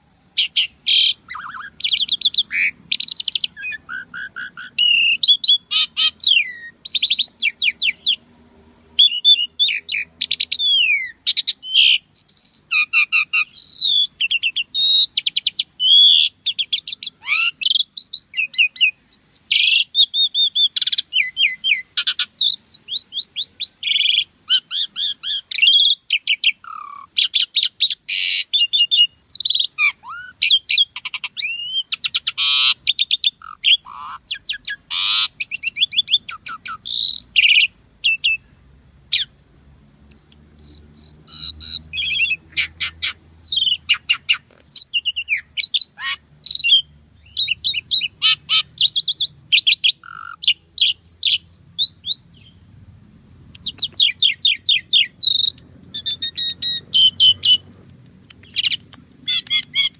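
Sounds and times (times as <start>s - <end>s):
starling singing: 0.0s - 38.5s, 39.1s - 39.4s, 40.1s - 52.7s, 53.6s - 59.9s.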